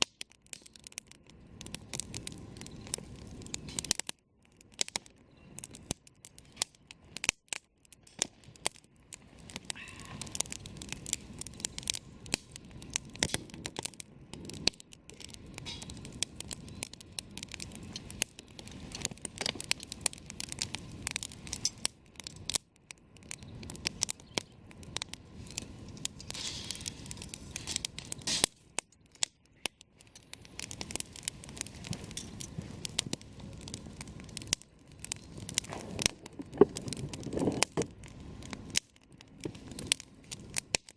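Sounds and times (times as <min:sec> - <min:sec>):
low rushing of flame: 0:00.0 - 0:40.9
wood crackling and popping: 0:00.0 - 0:40.9.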